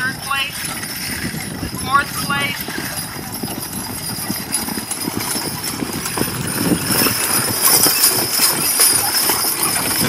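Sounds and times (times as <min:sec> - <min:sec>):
harness chains jingling: 0:00.0 - 0:10.0
horse hoofbeats on grass: 0:00.0 - 0:10.0.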